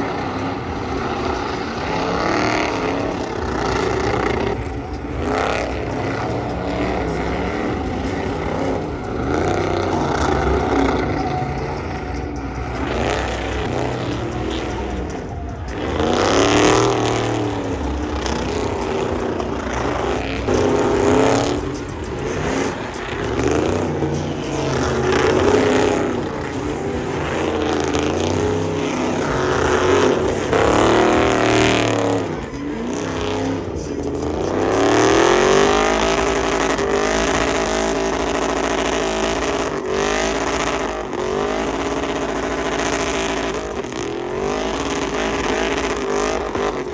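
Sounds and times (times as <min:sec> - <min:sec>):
truck engine revving hard: 0:00.0 - 0:46.9.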